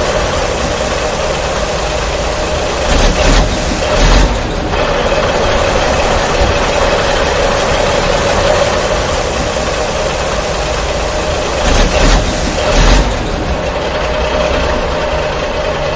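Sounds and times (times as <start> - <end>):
engine running: 0.0 - 15.9.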